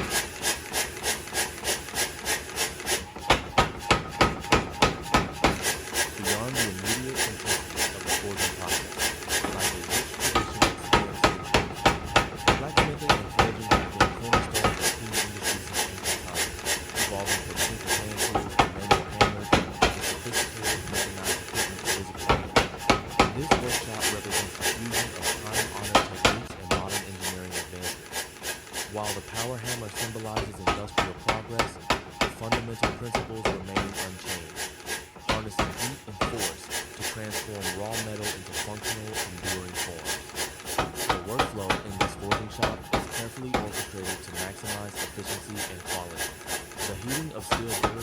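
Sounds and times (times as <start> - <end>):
power hammer striking hot steel: 0.0 - 48.0.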